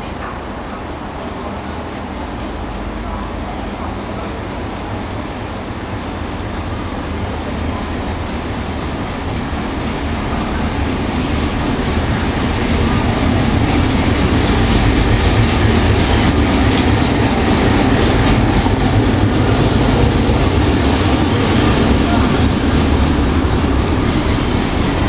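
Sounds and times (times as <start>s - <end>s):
diesel locomotive rumble: 0.0s - 25.0s.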